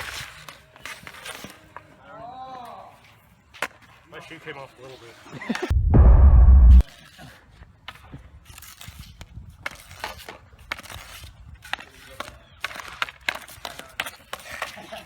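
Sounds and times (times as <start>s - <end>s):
hockey stick and puck on pavement: 0.0s - 5.2s, 6.9s - 15.0s.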